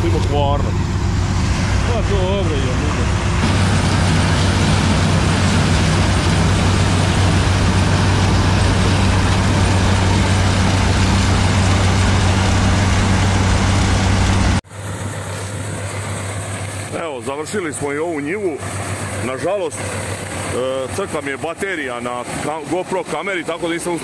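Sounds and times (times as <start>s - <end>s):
combine harvester engine hum: 0.0s - 24.0s
harvester machinery noise: 0.0s - 24.0s.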